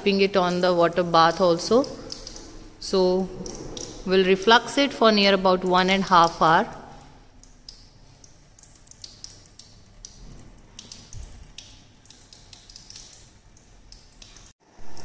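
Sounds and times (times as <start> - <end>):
water bubbling with small pops: 0.4 - 4.2, 6.1 - 14.5.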